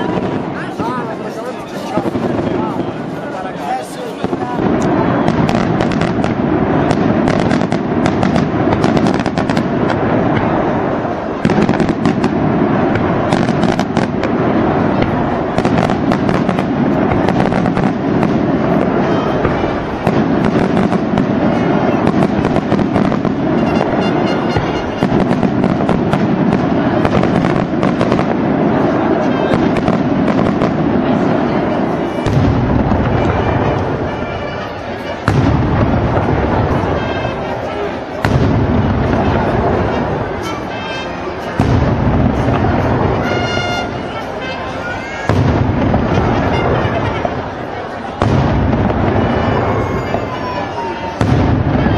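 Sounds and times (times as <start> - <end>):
firecrackers cracking and banging: 0.0 - 51.9.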